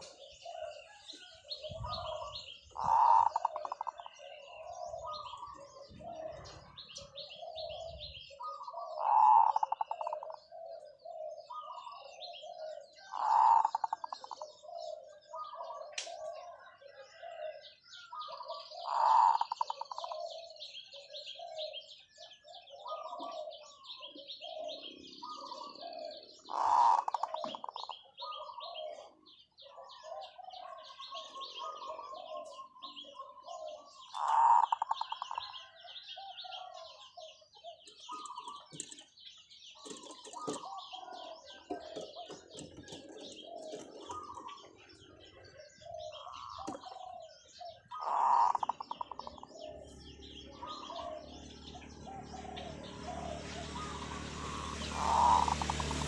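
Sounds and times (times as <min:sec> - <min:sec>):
dove cooing: 0:00.0 - 0:56.0
small birds chirping: 0:00.0 - 0:56.0.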